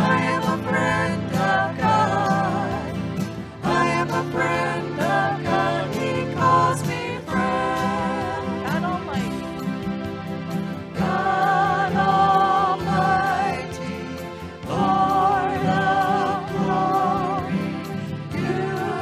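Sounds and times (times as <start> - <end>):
person singing with vibrato: 0.0 - 9.7, 11.0 - 19.0
sustained instrumental accompaniment: 0.0 - 19.0.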